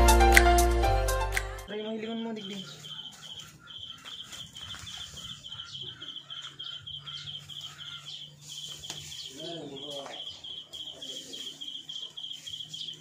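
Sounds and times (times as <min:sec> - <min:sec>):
other bird calls: 0:01.7 - 0:13.0.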